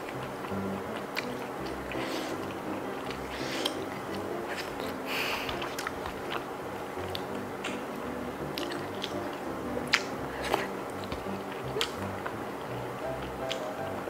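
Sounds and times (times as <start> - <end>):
slurping: 0.0 - 7.8, 8.5 - 13.7
wet chewing and lip smacks: 0.0 - 7.9, 8.6 - 12.4.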